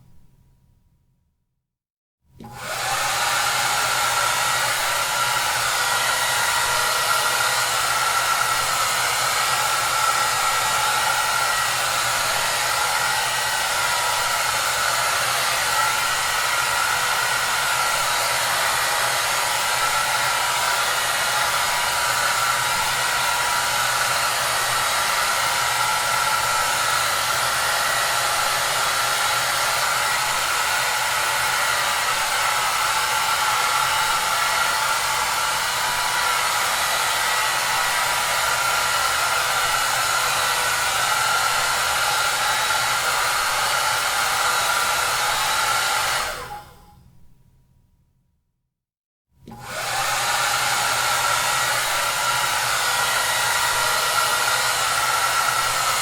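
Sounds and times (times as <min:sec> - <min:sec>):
hair dryer running: 0:02.4 - 0:46.9, 0:49.4 - 0:56.0.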